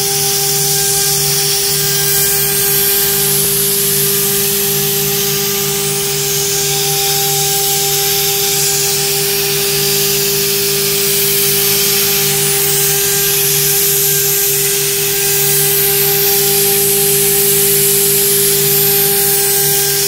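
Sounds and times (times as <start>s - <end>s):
router spindle whine: 0.0s - 20.0s.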